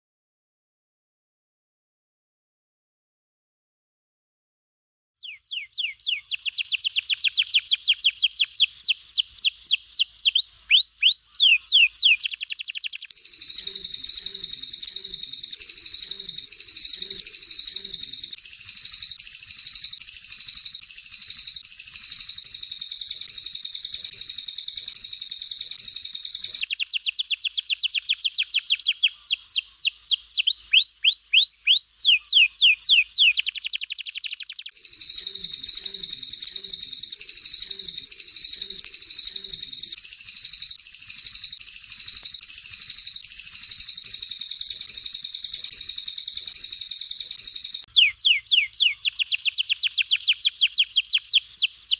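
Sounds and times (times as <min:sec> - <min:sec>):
canary birdsong: 0:05.2 - 0:51.9.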